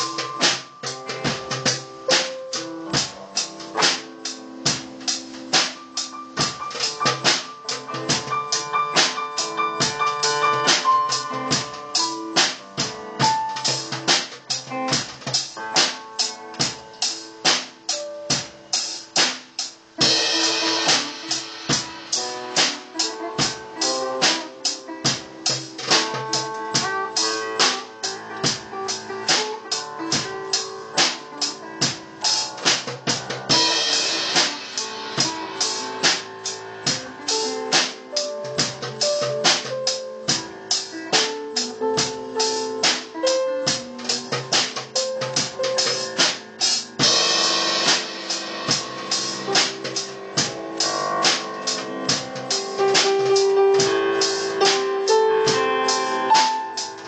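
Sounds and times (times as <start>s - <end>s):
drum kit beat: 0.0s - 57.0s
piano: 0.0s - 57.0s.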